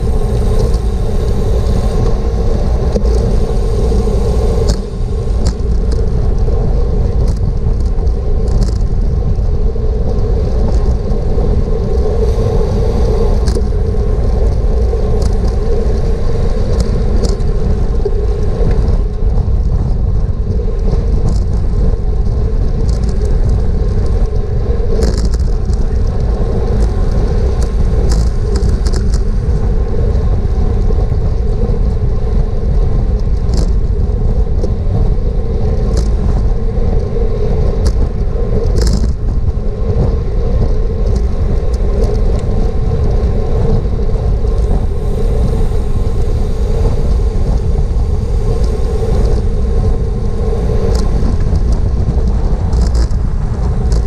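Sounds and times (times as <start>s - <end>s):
tyre and road noise: 0.0s - 54.0s
wind rumble on microphone: 0.0s - 54.0s.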